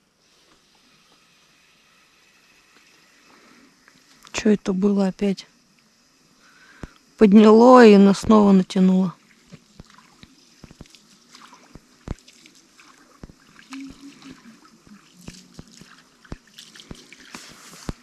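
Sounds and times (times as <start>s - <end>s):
river water trickling: 0.1s - 4.6s, 5.5s - 18.0s.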